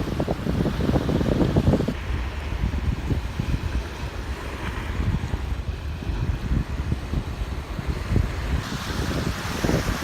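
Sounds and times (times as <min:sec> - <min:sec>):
ocean waves on beach: 0:00.0 - 0:10.0
wind buffeting microphone: 0:00.0 - 0:10.0.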